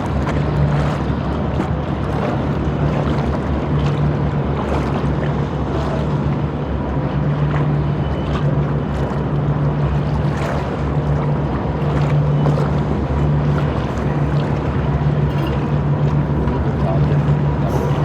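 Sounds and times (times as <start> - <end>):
boat engine droning: 0.0 - 18.0
river water washing: 0.0 - 18.0
wind: 0.0 - 18.0.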